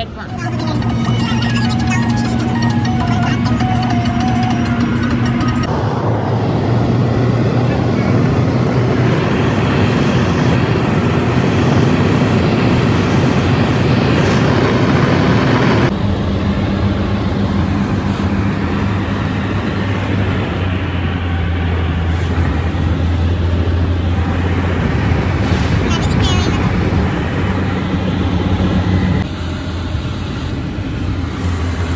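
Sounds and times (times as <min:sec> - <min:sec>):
car engine drone and road noise: 0:00.0 - 0:31.9.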